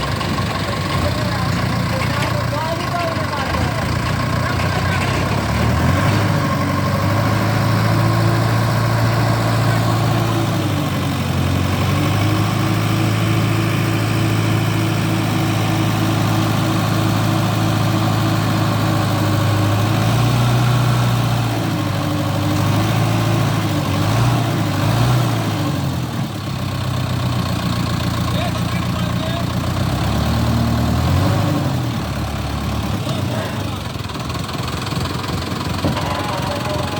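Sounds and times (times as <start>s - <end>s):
engine idling: 0.0s - 36.9s.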